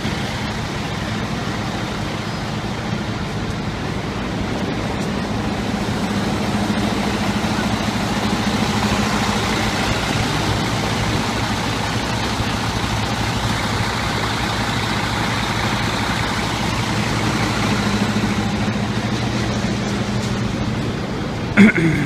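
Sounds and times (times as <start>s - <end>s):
city street traffic: 0.0s - 22.0s
diesel engine idling: 0.0s - 22.0s.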